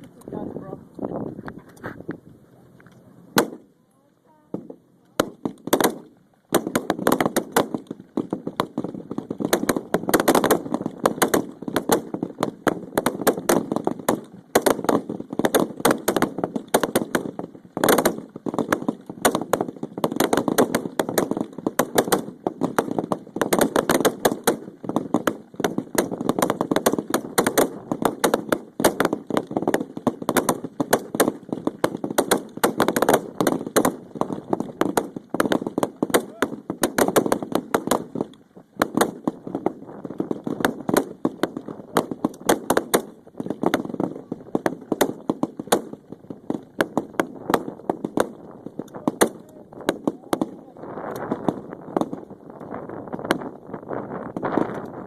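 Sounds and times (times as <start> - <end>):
rifle shots: 3.3 - 3.7, 4.6 - 52.3.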